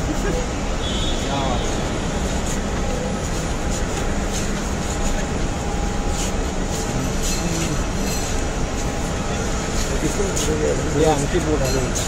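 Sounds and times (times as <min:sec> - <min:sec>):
crowd murmur: 0:00.0 - 0:12.0
traffic: 0:00.0 - 0:12.0.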